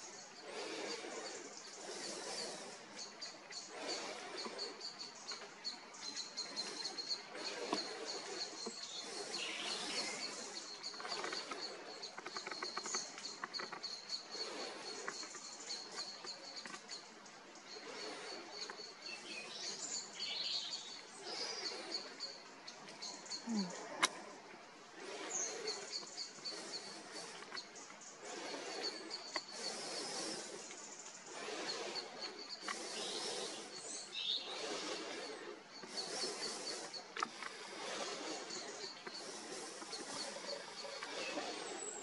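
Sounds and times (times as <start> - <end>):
background hiss: 0.0 - 42.0.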